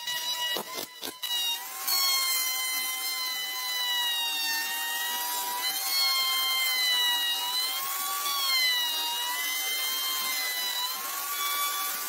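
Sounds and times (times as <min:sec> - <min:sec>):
router motor whine cutting wood: 0:00.0 - 0:12.0.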